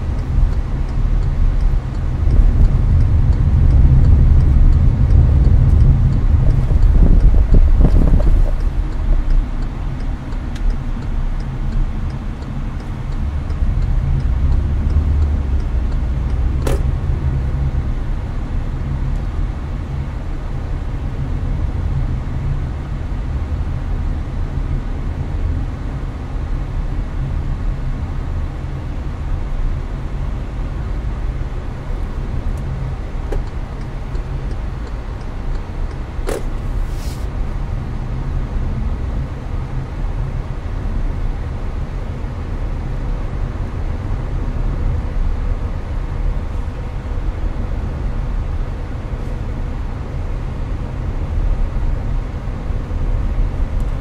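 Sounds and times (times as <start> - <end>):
air conditioning hiss: 0.0 - 54.0
road and engine rumble: 0.0 - 54.0.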